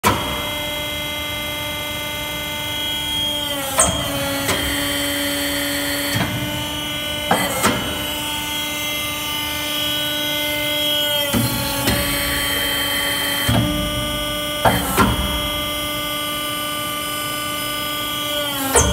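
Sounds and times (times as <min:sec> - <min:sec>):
hydraulic press motor hum: 0:00.0 - 0:18.9.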